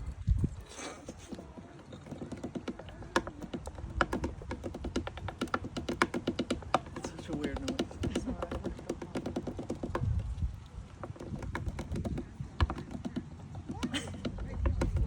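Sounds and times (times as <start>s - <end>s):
swan bill tapping on feeder: 1.1s - 15.0s.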